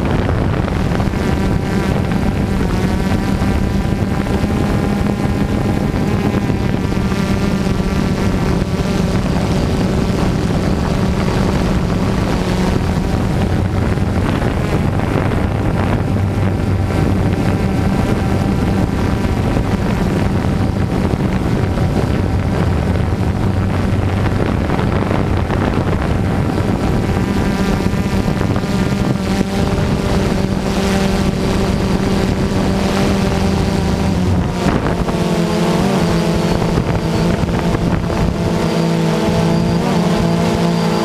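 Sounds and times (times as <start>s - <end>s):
drone propellers humming: 0.0s - 41.0s.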